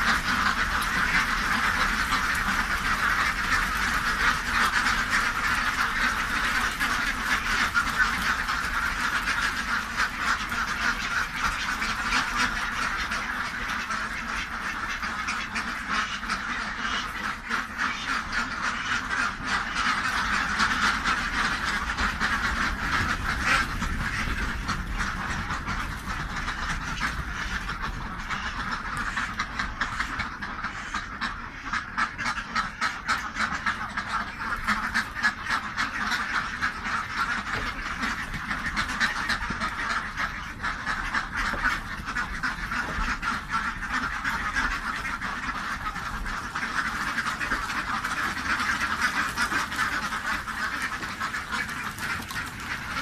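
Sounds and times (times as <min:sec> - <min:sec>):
ducks quacking: 0:00.0 - 0:53.0.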